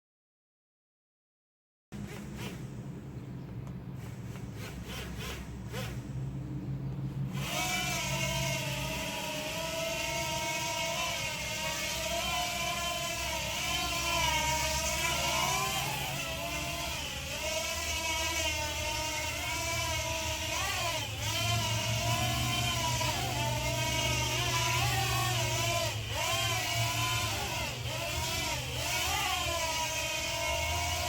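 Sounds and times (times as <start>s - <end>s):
drone propellers whining: 2.0s - 31.0s.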